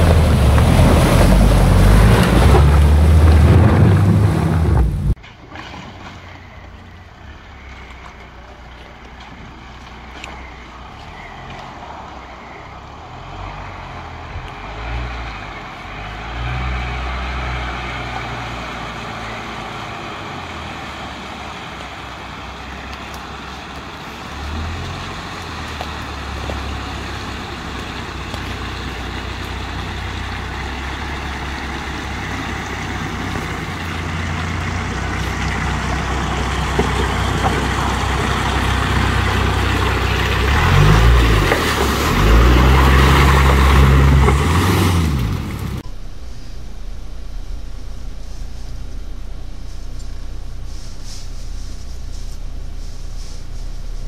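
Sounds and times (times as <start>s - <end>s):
car engine revving: 0.0s - 5.2s, 12.4s - 54.0s
water splashing around wheels: 0.0s - 54.0s.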